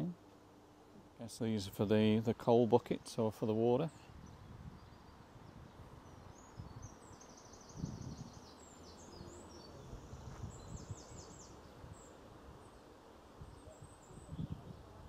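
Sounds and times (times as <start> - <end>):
small birds singing trilled phrases: 2.8 - 15.0.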